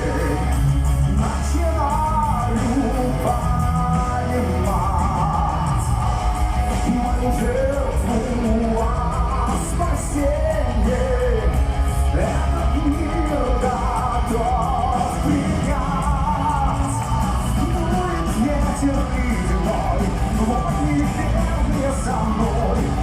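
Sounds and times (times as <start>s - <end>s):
metal band playing live: 0.0s - 23.0s
person singing: 0.0s - 23.0s.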